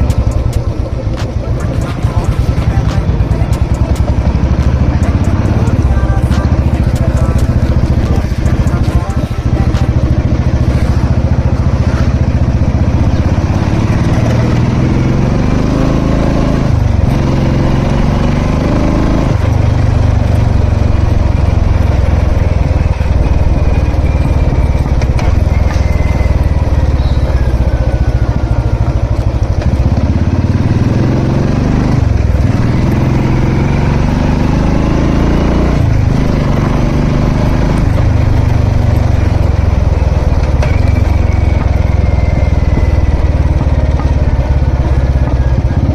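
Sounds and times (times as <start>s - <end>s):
motorcycle engine revving through gears: 0.0s - 45.9s.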